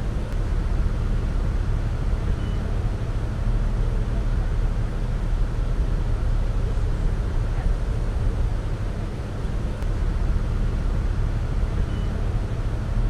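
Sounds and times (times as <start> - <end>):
boat engine humming: 0.0 - 13.0
wind and water noise: 0.0 - 13.0.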